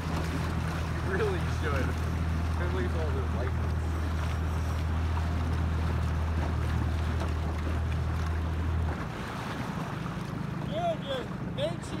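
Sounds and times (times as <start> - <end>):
outboard motor humming: 0.0 - 12.0
water noise: 0.0 - 12.0
wind: 0.0 - 12.0.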